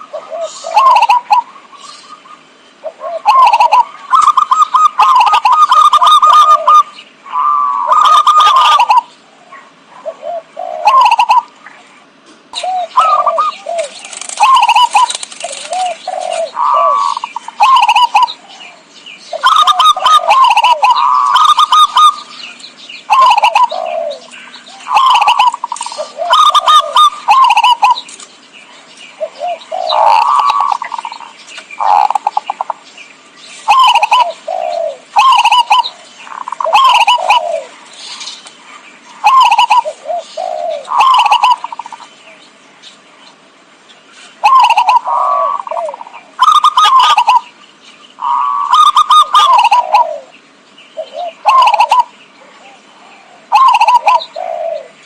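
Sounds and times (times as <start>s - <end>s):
bird chirps: 0.0s - 11.9s, 12.5s - 55.0s
doves cooing: 0.0s - 42.6s, 43.4s - 55.0s.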